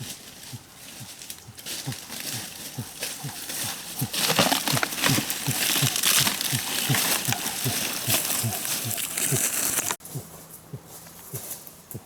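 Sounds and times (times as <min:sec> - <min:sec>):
crackling rustle: 0:00.0 - 0:12.0
animal grunting: 0:00.4 - 0:12.0.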